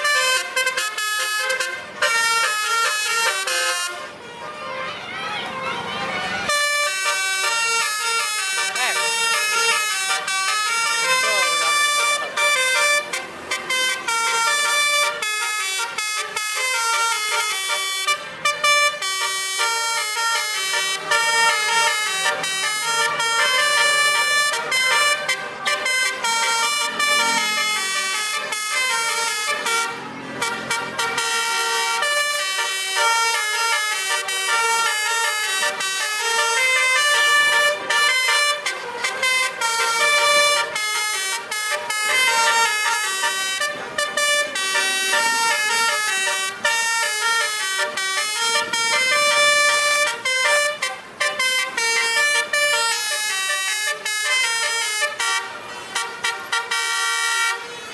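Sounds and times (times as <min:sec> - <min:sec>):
multi-trumpet air horn tune: 0:00.0 - 0:57.9.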